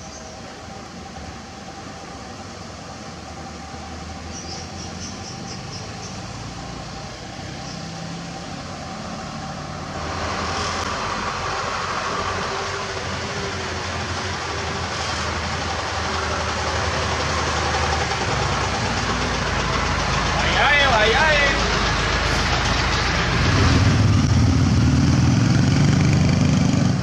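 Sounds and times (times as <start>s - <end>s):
truck diesel engine passing: 0.0s - 27.0s.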